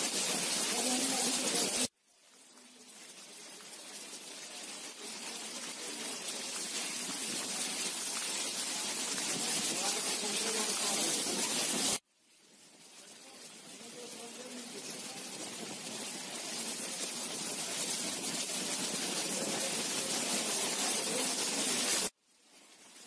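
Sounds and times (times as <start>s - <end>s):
heavy rain on paved road: 0.0s - 23.0s.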